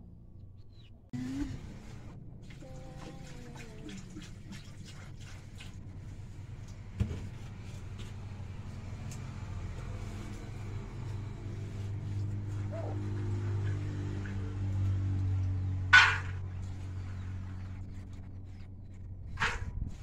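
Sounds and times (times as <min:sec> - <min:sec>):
vehicle engine humming: 0:00.0 - 0:04.6, 0:05.2 - 0:20.0.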